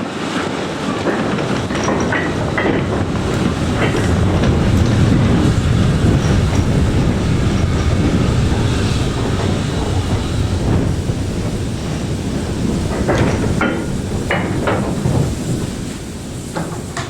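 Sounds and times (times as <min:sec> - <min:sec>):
train wheels rumbling on track: 0:00.0 - 0:17.0
wheels clicking over rail joints: 0:00.0 - 0:17.0.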